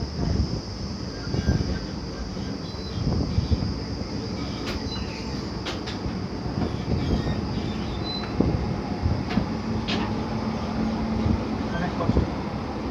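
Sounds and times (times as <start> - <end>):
train rumbling and rattling: 0.0 - 12.9.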